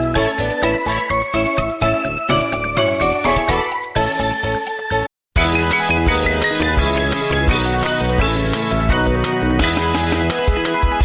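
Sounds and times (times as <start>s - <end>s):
upbeat music with bell-like notes: 0.0s - 11.0s.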